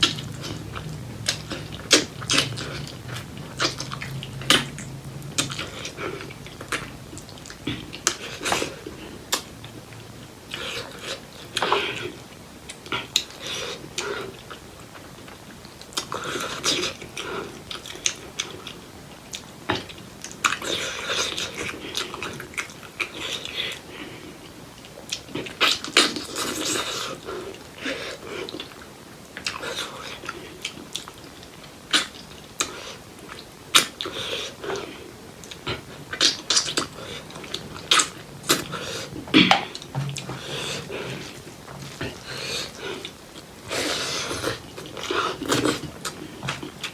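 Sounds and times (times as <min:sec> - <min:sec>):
person chewing and smacking: 0:00.0 - 0:46.9.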